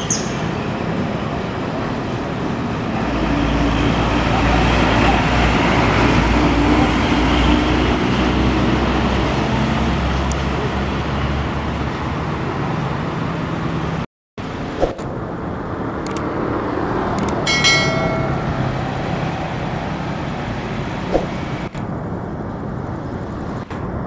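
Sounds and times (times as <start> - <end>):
road traffic noise: 0.0 - 24.0
truck engine rumble: 0.4 - 24.0.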